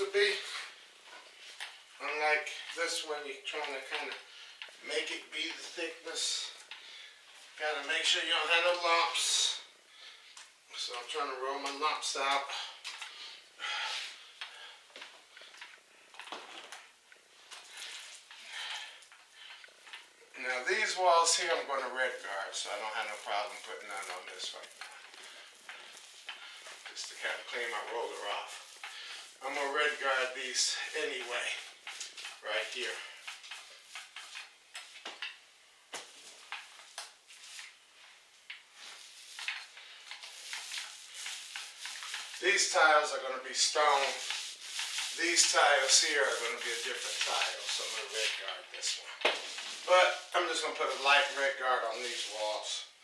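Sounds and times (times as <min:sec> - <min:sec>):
paint roller wet swishing: 0:00.0 - 0:10.2, 0:10.9 - 0:35.4, 0:36.0 - 0:53.0.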